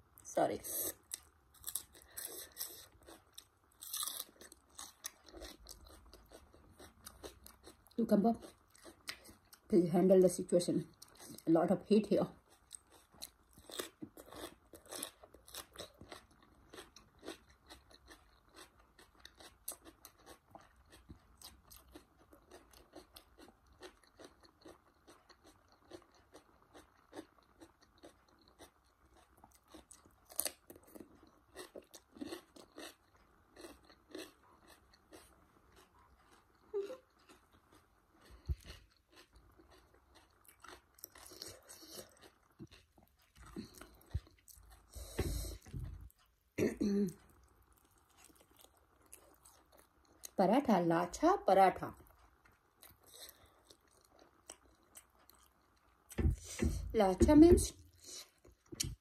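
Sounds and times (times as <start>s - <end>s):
crunching and chewing cucumber: 0.9s - 9.7s, 10.8s - 46.3s, 47.2s - 50.4s, 51.9s - 57.0s.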